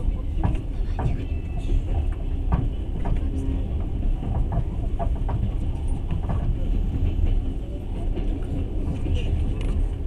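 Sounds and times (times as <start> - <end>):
train rumbling: 0.0 - 10.0
wheels clicking and knocking: 0.3 - 10.0.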